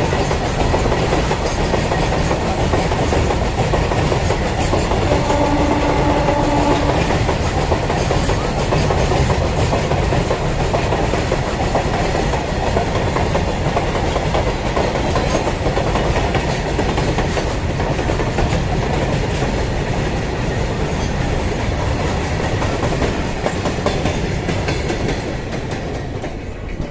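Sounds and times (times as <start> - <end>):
freight train wagons rolling past: 0.0 - 26.9
wheels clacking over rail joints: 0.0 - 26.9.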